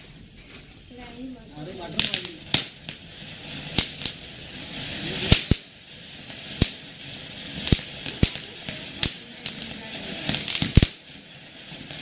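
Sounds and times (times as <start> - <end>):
firework cracks: 0.0 - 12.0
fountain firework hissing: 0.0 - 12.0.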